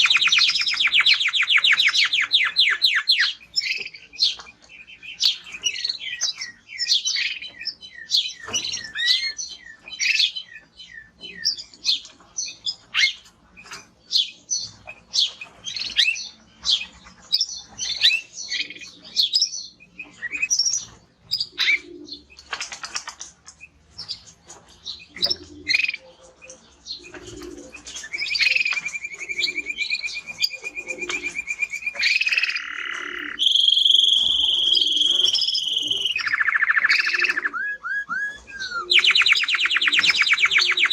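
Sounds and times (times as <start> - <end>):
canary singing chirps and trills: 0.0 - 40.9.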